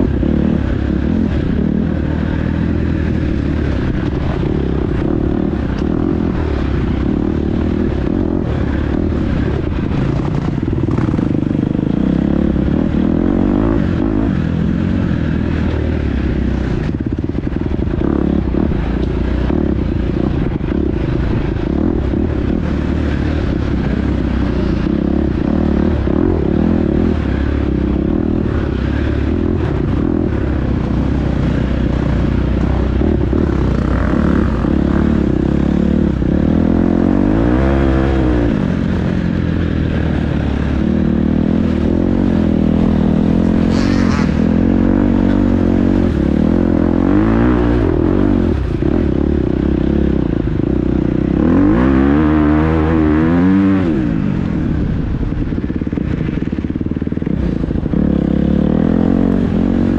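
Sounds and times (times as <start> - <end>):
dirt bike engine revving: 0.0 - 54.7, 55.4 - 59.9.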